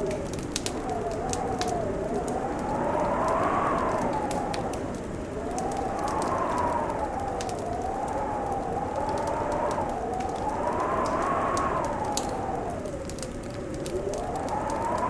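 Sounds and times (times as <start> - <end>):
crackling wood fire: 0.0 - 15.0
howling wind: 0.0 - 15.0.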